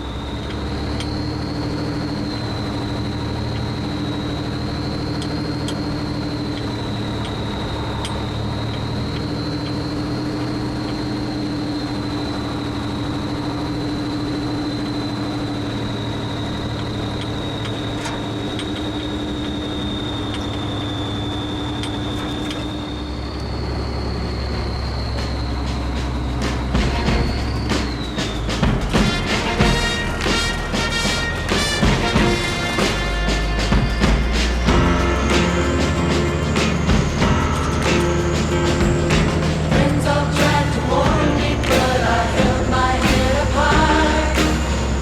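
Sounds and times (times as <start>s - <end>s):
truck engine droning with whine: 0.0s - 45.0s.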